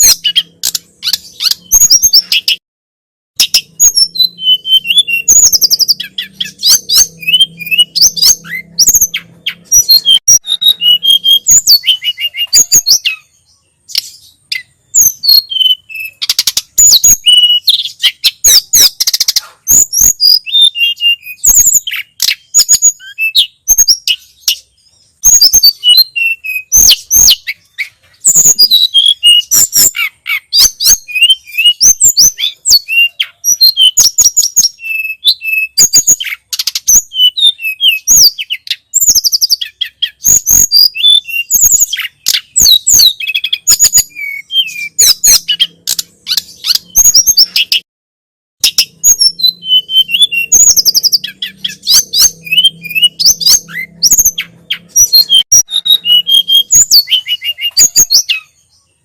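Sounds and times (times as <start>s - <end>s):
bird singing high chirps and whistles: 0.0s - 2.6s, 3.4s - 47.9s, 48.6s - 59.0s.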